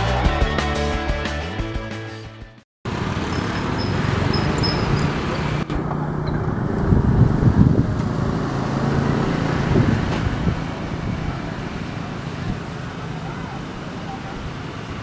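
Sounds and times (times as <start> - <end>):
vehicles passing by: 2.9 - 15.0.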